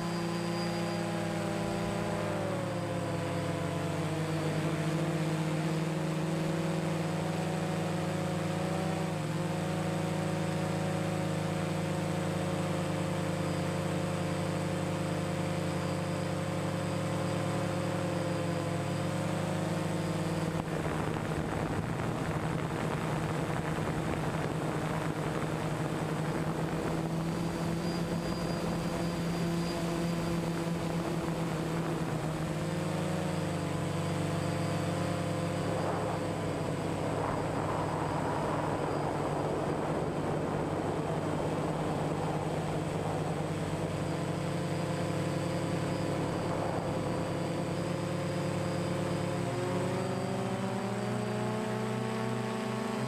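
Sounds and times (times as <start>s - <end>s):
drone propellers humming: 0.0s - 53.0s.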